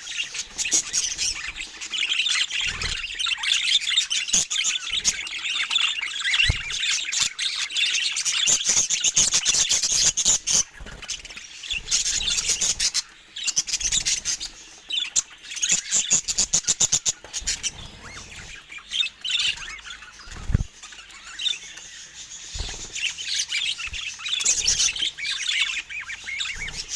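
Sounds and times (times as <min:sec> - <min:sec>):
budgerigars chattering: 0:00.0 - 0:26.9.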